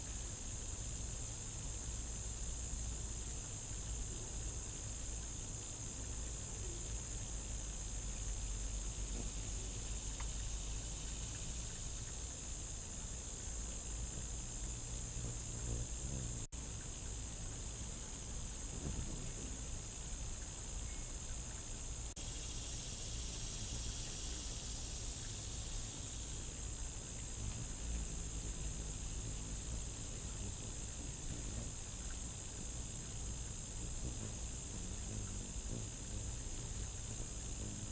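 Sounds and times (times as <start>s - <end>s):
insect chorus high-pitched trill: 0.0s - 37.9s.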